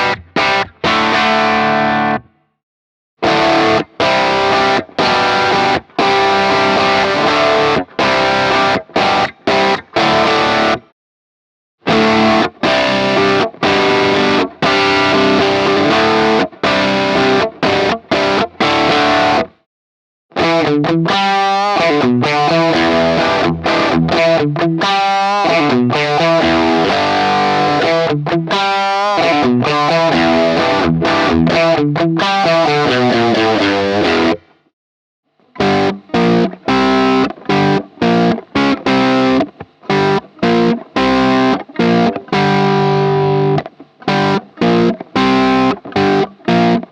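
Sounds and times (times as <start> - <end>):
distorted electric guitar riffs: 0.0 - 2.6, 3.2 - 10.9, 11.8 - 19.6, 20.3 - 34.6, 35.4 - 46.9.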